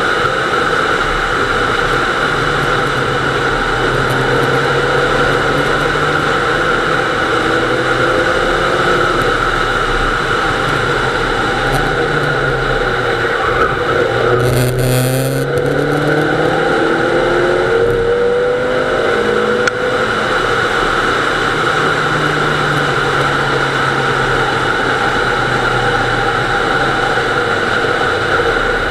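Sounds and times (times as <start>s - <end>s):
car engine accelerating: 0.0s - 28.9s
road and tyre noise: 0.0s - 28.9s.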